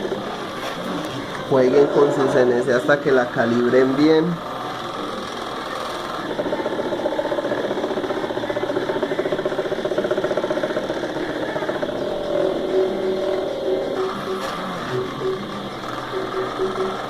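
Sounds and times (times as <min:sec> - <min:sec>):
stepper motor buzz: 0:00.0 - 0:17.0.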